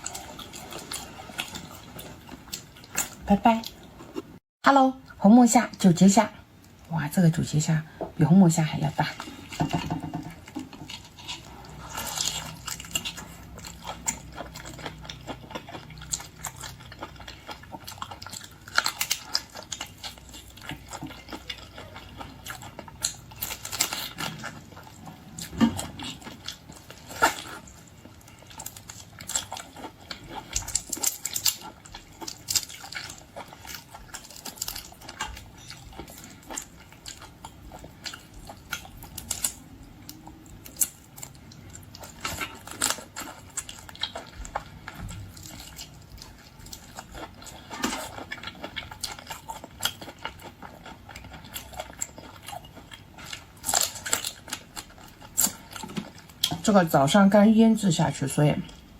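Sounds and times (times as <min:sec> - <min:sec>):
wet chewing and smacking: 0:00.0 - 0:04.4, 0:09.1 - 0:56.7.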